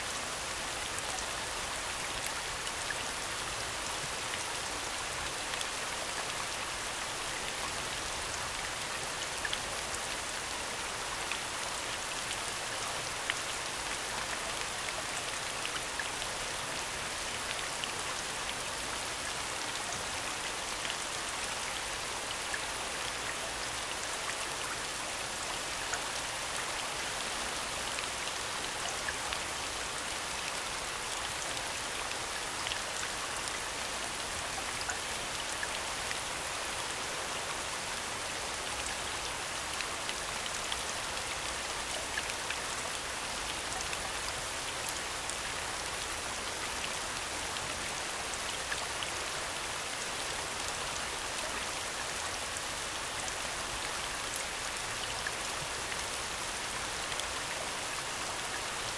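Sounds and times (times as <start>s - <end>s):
steady falling rain: 0.0s - 58.9s.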